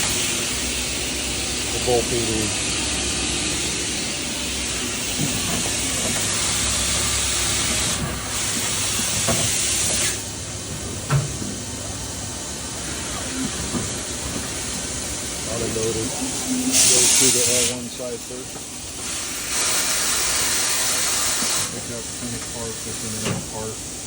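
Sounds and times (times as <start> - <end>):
loud steady hiss: 0.0 - 24.0.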